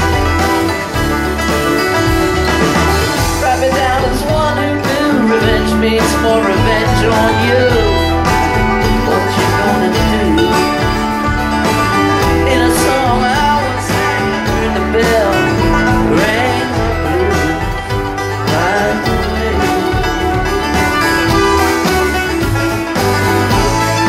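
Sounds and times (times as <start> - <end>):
bluegrass string band playing: 0.0 - 24.0.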